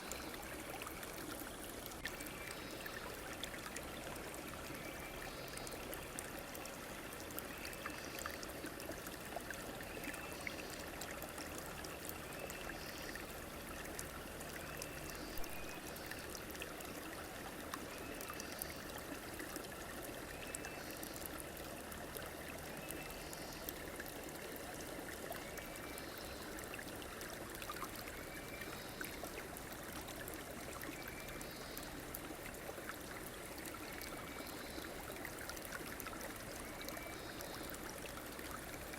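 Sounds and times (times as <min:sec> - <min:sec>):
stream rushing and trickling: 0:00.0 - 0:38.9.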